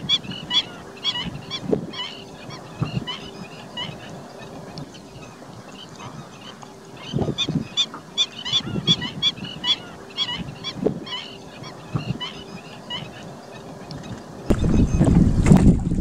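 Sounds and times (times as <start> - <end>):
flamingos calling: 0.0 - 15.1.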